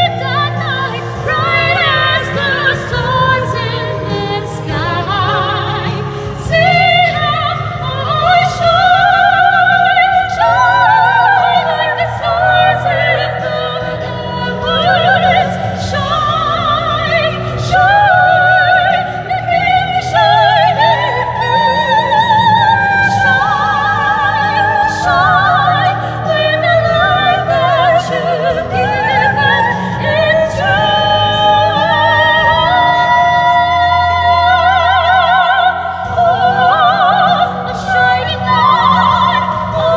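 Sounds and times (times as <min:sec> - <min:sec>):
women singing operatic duet: 0:00.0 - 0:39.9.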